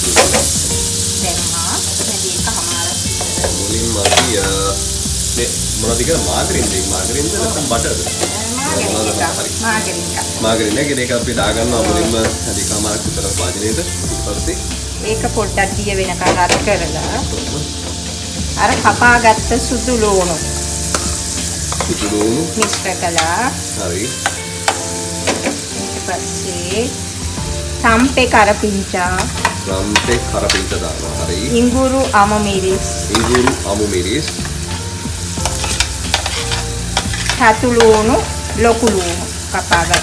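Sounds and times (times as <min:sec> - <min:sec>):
margarine sizzling in a saucepan: 0:00.0 - 0:40.0.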